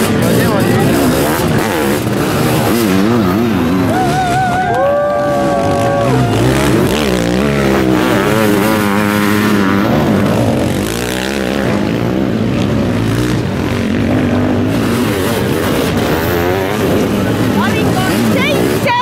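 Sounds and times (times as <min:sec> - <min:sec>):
motocross engines revving: 0:00.0 - 0:19.0.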